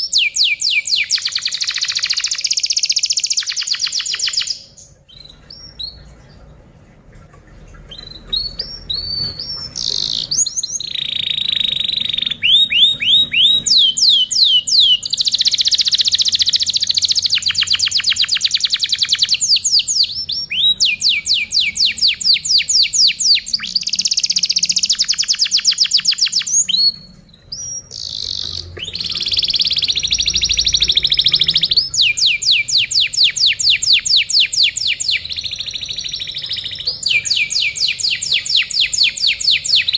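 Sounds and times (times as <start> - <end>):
canary singing trills: 0.0 - 6.5, 7.7 - 39.9.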